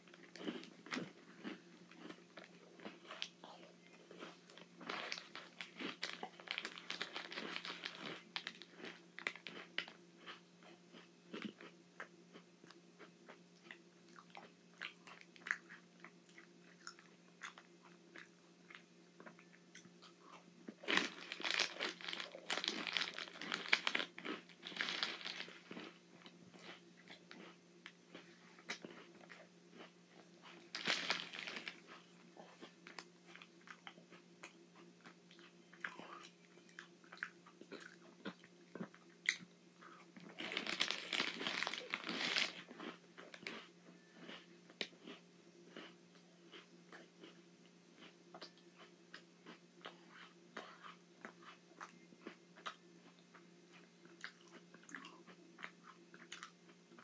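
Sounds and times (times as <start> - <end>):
cookies crunching: 0.0 - 47.4.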